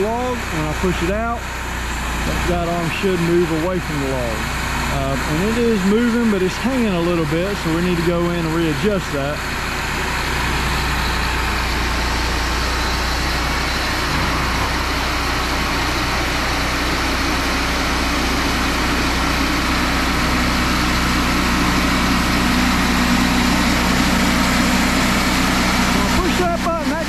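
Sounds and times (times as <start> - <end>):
portable sawmill running: 0.0 - 27.0.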